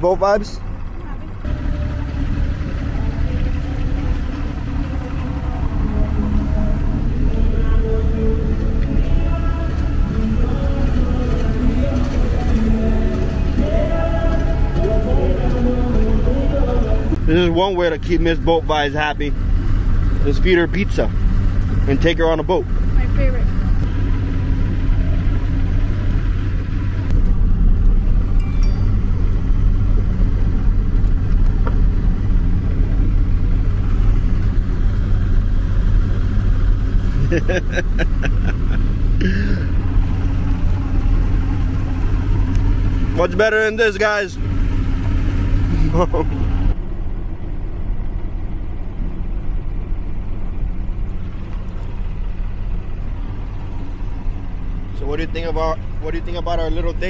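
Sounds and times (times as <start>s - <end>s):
speedboat engine rumbling: 0.0s - 57.0s.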